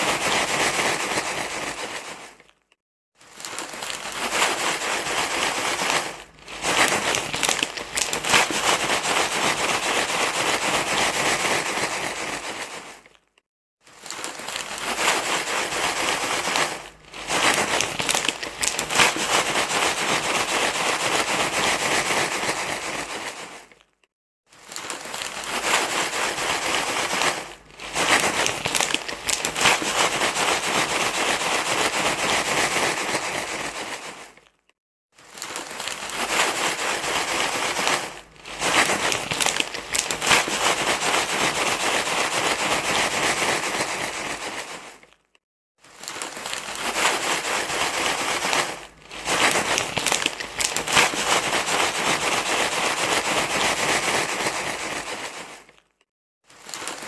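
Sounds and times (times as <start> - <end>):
crinkling and rustling: 0.0 - 57.0.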